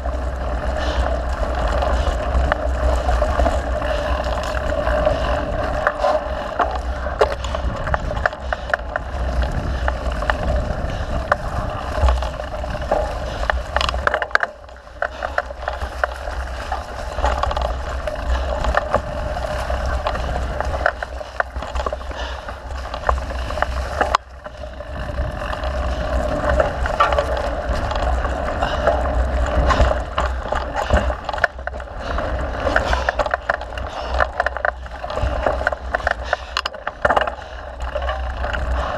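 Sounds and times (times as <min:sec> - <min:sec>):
bike rattling and clicking: 0:00.0 - 0:38.9
bike tyres rolling on dirt: 0:00.0 - 0:38.9.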